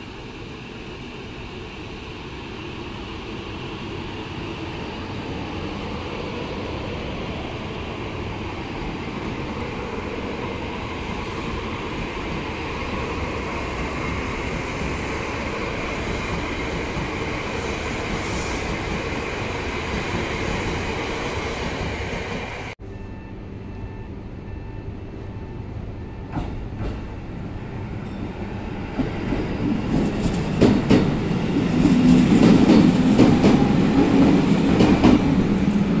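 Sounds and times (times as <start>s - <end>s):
high-speed train rushing past: 0.0s - 23.3s, 23.9s - 36.0s.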